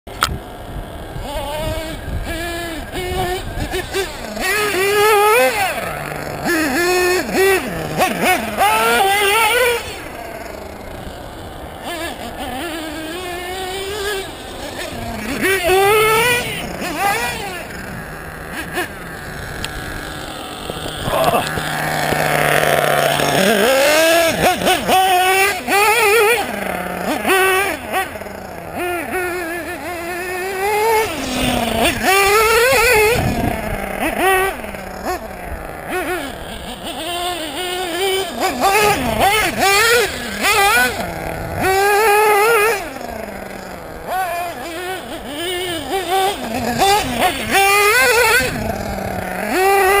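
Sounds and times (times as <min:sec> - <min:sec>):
rc car nitro engine revving: 0:00.1 - 0:50.0.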